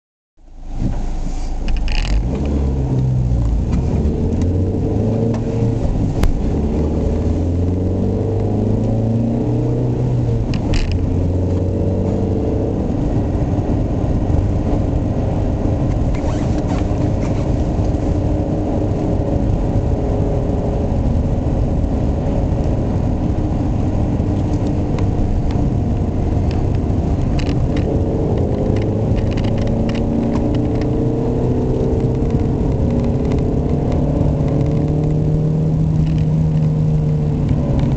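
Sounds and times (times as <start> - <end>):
car engine running: 0.4 - 37.9
tyre and road noise: 0.4 - 37.9.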